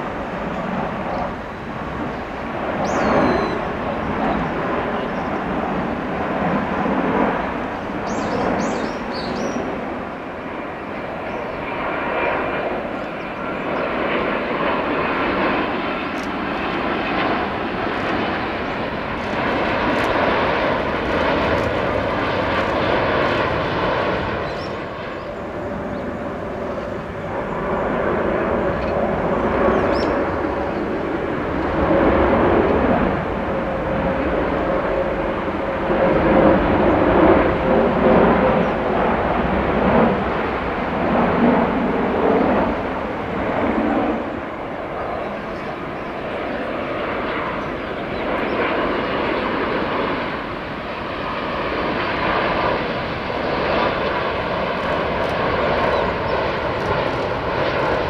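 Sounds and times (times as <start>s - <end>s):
jet airliners passing low: 0.0s - 58.0s
jet engines roaring with whine: 0.0s - 58.0s.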